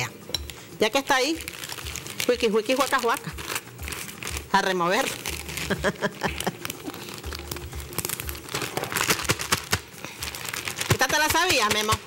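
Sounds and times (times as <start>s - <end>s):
plastic bag crinkling: 0.9s - 12.0s.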